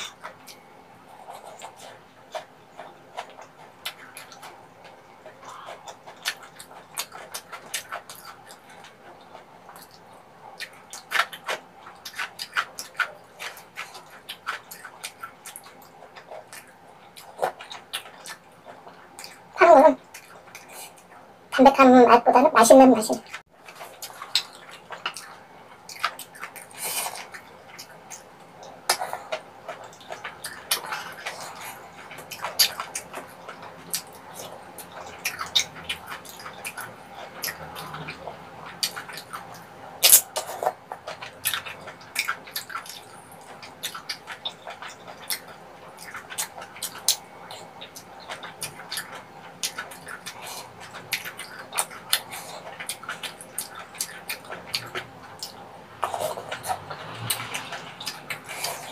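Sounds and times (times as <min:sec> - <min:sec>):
wet chewing and mouth smacks: 0:00.0 - 0:21.6, 0:23.2 - 0:58.9.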